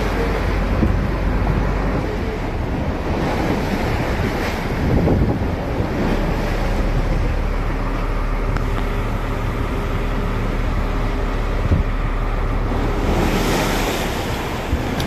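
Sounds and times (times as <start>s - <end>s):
boat engine droning: 0.0s - 15.0s
choppy sea wash: 0.0s - 15.0s.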